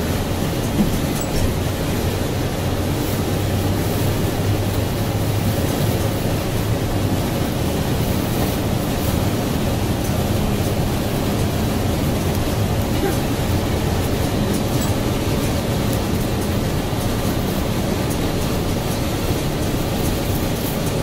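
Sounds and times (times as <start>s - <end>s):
low bus engine drone: 0.0s - 21.0s
road and wind noise: 0.0s - 21.0s.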